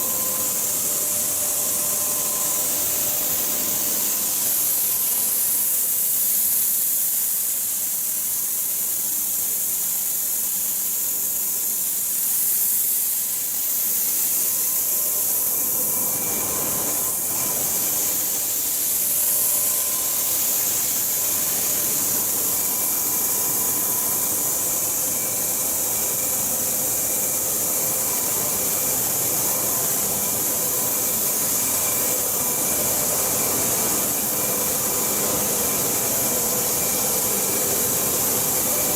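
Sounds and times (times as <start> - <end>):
machinery high hiss: 0.0 - 38.9.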